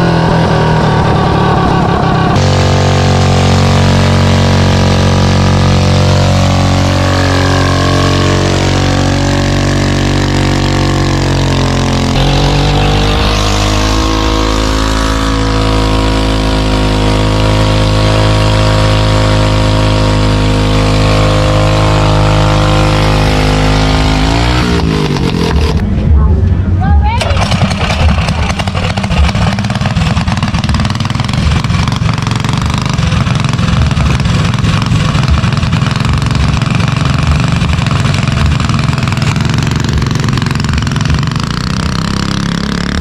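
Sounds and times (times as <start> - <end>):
minibike engine revving: 0.0 - 26.0, 27.1 - 43.0.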